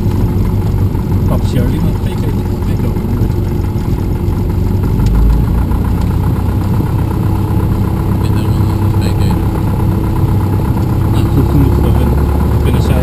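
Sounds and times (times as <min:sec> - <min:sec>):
light aircraft engine and propeller: 0:00.0 - 0:13.0.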